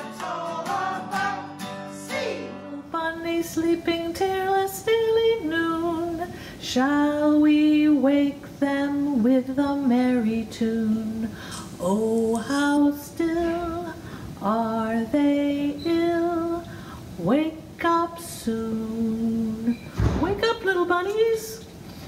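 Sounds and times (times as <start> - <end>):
woman singing: 2.0 - 21.7.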